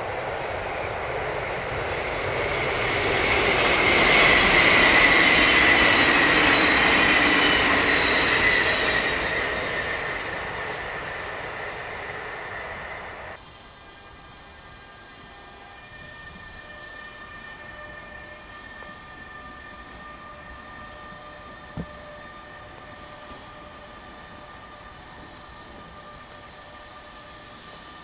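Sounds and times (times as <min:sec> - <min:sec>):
high steady whine: 0:00.0 - 0:28.0
passing train rolling noise: 0:00.0 - 0:28.0.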